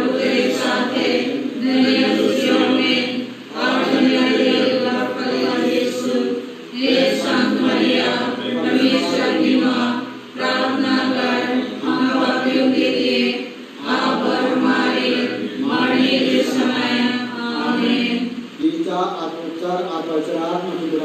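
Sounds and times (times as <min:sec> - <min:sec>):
group singing a chant in unison: 0:00.0 - 0:18.6.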